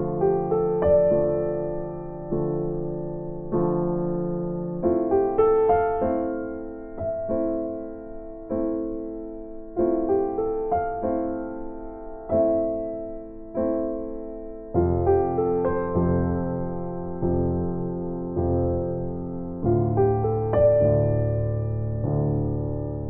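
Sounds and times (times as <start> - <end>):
gentle piano chords: 0.0 - 23.0.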